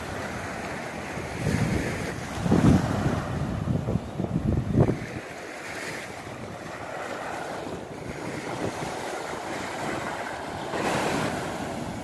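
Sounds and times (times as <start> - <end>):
sea waves breaking: 0.0 - 12.0
wind on microphone: 0.0 - 12.0.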